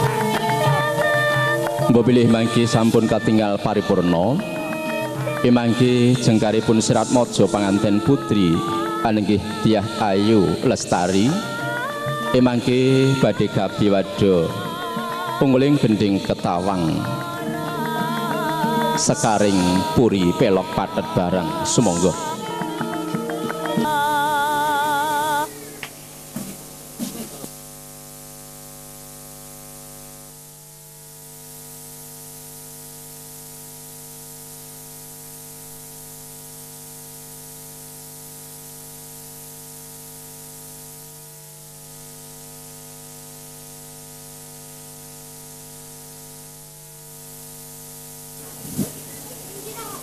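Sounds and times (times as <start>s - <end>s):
electrical mains hum with hiss: 0.0s - 50.0s.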